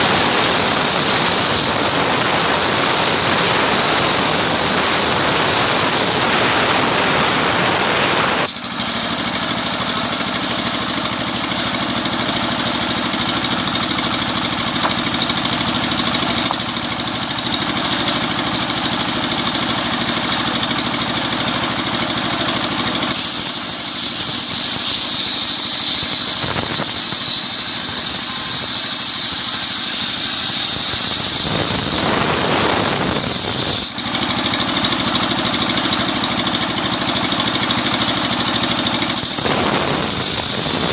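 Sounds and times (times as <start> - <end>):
sawmill saw squealing through wood: 0.0 - 40.9.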